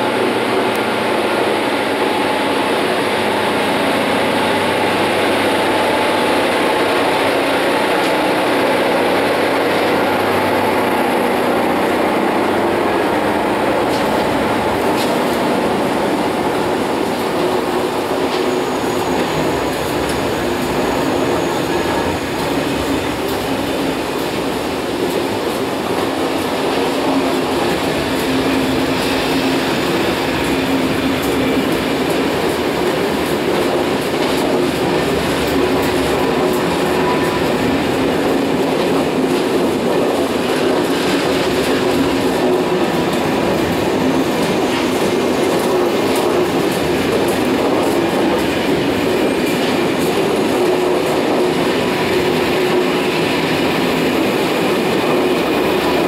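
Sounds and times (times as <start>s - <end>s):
train wheels on track: 0.0s - 56.0s.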